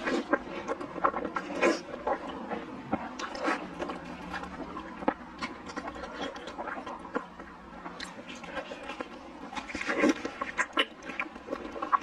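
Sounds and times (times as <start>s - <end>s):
sticky food squelches: 0.0s - 12.0s.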